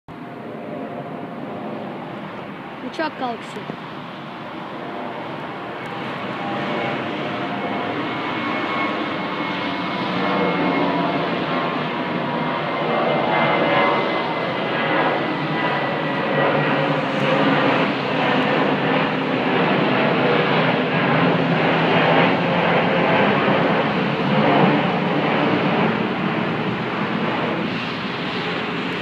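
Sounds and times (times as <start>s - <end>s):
high engine whine: 0.1s - 29.0s
jet engine rumble: 0.1s - 29.0s.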